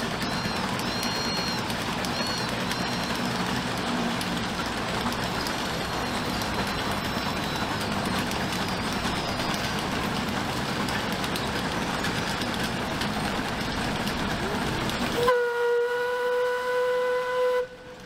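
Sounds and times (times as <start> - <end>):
birds chirping: 0.0 - 14.6
steam tractor engine and tracks: 0.0 - 18.0.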